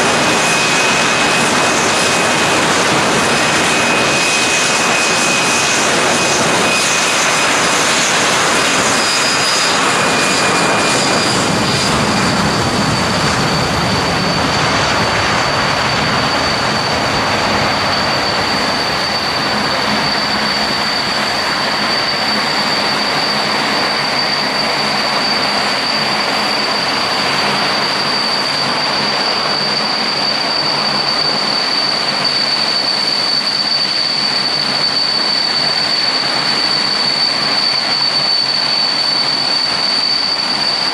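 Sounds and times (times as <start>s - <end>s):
high engine whine: 0.0s - 40.9s
jet engines roaring: 0.0s - 40.9s.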